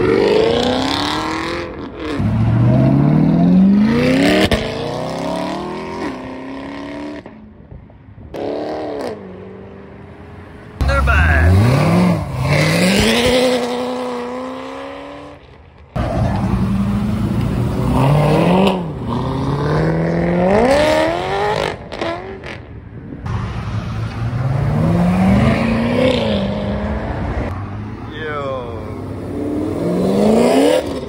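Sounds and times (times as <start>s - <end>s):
car engines accelerating: 0.0s - 31.0s.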